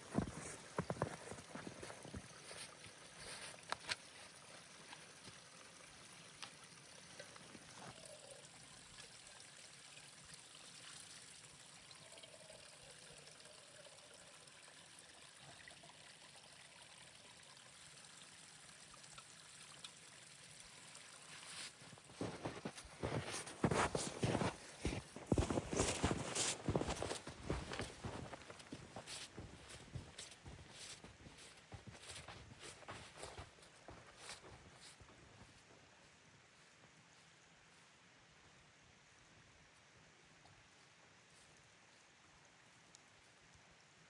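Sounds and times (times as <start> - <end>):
faint steady hiss: 0.0 - 44.0.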